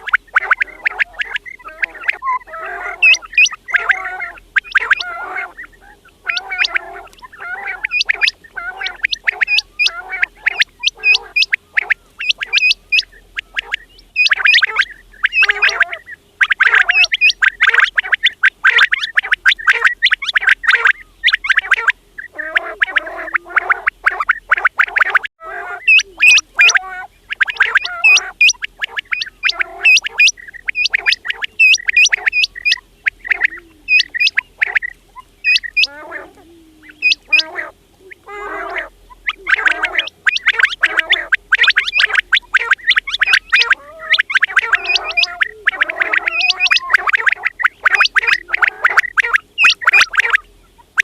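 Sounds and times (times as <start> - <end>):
quails chirping: 0.0 - 51.0.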